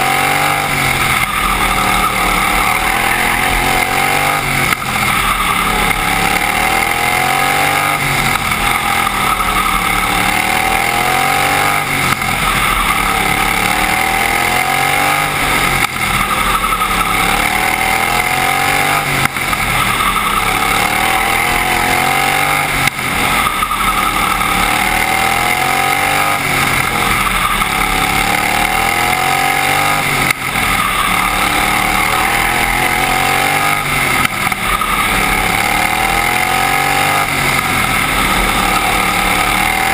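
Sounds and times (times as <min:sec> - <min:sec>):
racing lawnmower engine revving: 0:00.0 - 0:39.9.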